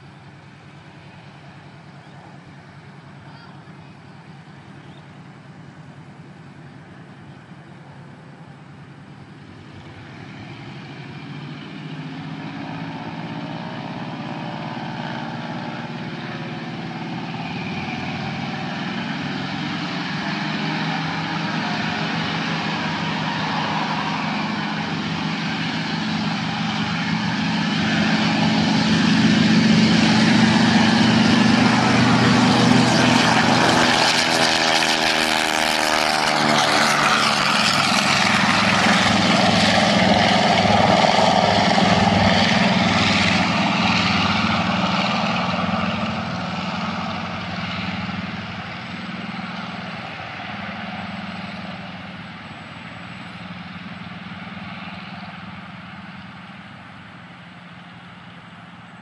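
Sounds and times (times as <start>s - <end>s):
propeller plane taking off: 0.0s - 59.0s.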